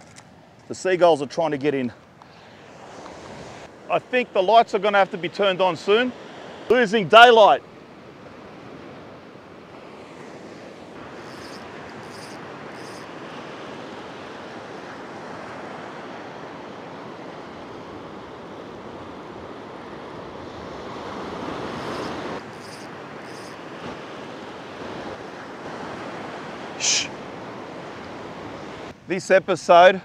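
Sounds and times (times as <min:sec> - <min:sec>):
wind: 0:00.0 - 0:30.0
waves breaking on beach: 0:02.3 - 0:30.0.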